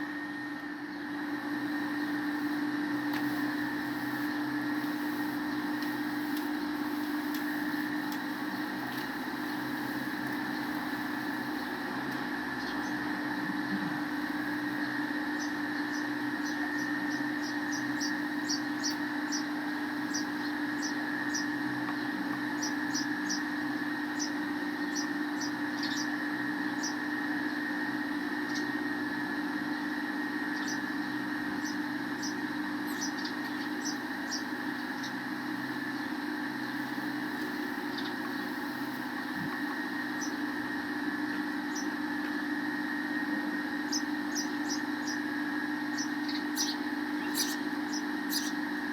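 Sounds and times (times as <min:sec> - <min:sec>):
steady machine hum: 0:00.0 - 0:48.9
sparrows chirping: 0:00.1 - 0:48.9.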